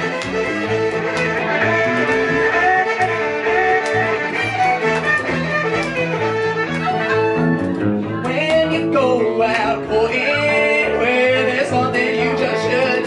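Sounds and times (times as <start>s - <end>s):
fiddle melody: 0.0s - 13.0s
strummed guitar: 0.0s - 13.0s
upright bass line: 0.0s - 13.0s.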